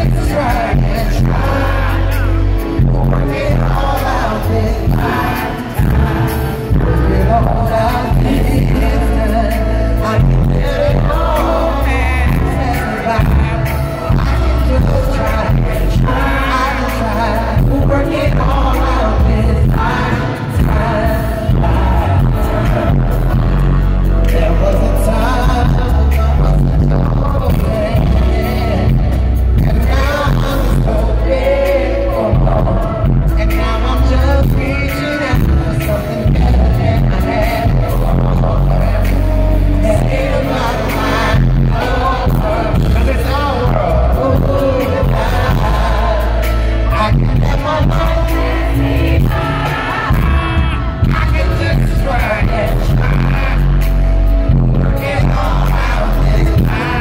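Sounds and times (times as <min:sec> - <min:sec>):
band music with heavy bass: 0:00.0 - 0:57.0
man singing into a microphone: 0:00.0 - 0:57.0.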